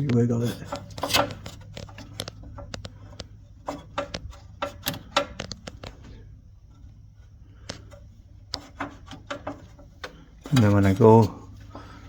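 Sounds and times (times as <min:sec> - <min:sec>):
small clicks and knocks: 0:00.0 - 0:12.0.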